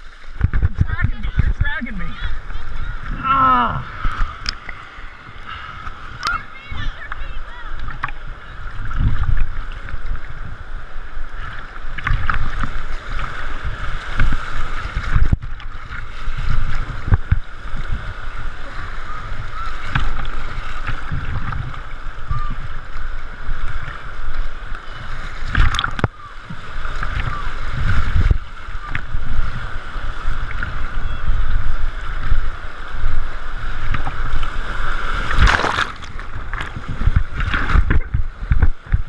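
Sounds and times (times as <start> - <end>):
river water rushing and sloshing: 0.0 - 39.0.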